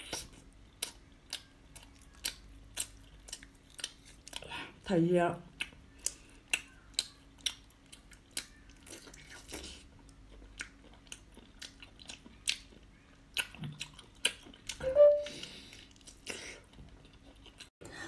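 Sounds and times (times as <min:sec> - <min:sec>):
person chewing wetly: 0:00.0 - 0:04.6, 0:05.5 - 0:14.8, 0:15.6 - 0:17.7.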